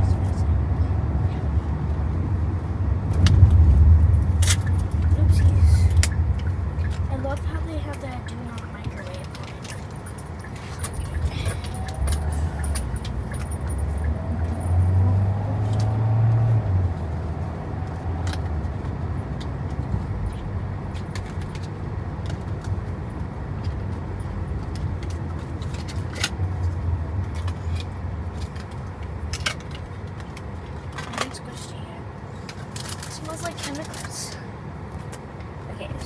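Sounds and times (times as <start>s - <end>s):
low rumble: 0.0s - 29.4s.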